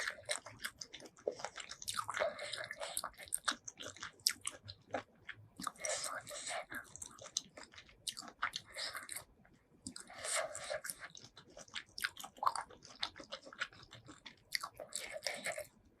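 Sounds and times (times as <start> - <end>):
chewing and biting seafood: 0.0 - 15.8.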